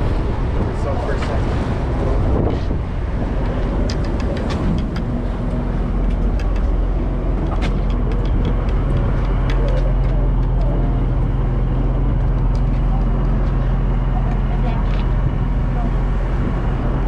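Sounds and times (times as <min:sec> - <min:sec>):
boat engine droning: 0:00.0 - 0:17.0
water rushing along hull: 0:00.0 - 0:17.0.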